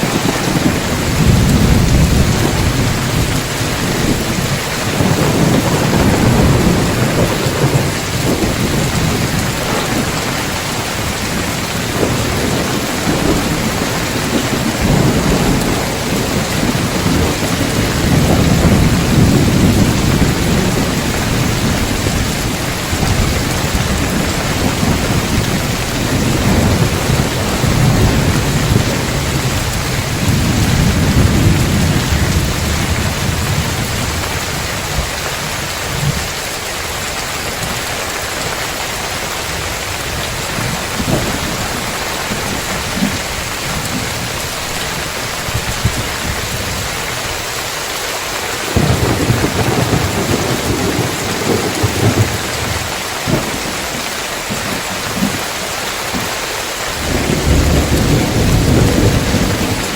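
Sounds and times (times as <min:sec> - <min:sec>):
thunder rumbling: 0:00.0 - 0:47.6, 0:48.4 - 0:59.9
heavy rain on roof tiles: 0:00.0 - 0:59.9.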